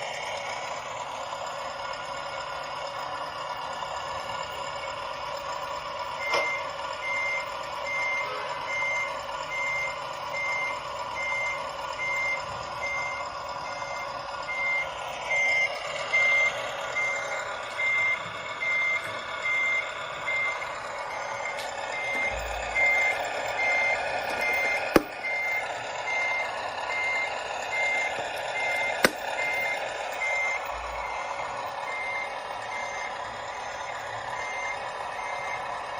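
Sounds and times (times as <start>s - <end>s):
reversing alarm beeping: 0.0s - 35.9s.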